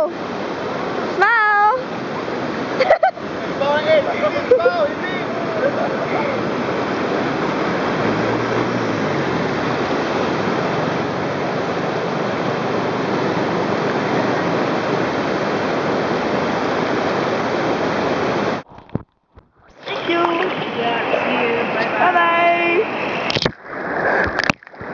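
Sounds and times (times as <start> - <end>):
river rapids rushing: 0.0 - 18.6, 19.7 - 24.9.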